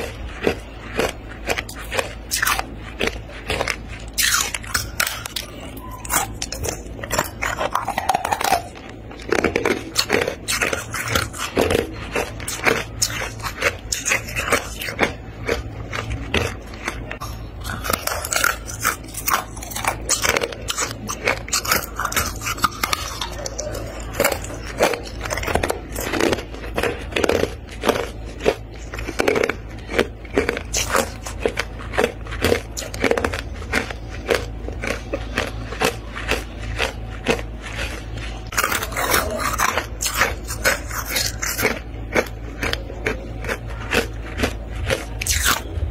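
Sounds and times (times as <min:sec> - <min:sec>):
frost crunching when chewed: 0:00.0 - 0:45.9.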